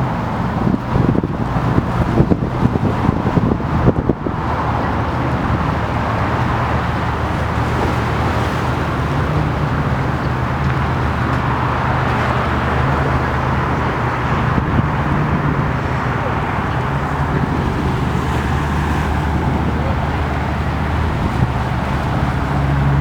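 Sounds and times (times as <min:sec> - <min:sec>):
engine hum and roar: 0:00.0 - 0:23.0.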